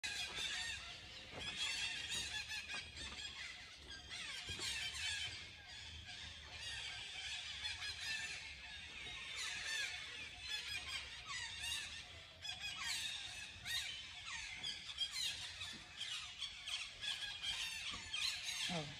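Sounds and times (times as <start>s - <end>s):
birds chirping and whistling: 0.0s - 18.9s.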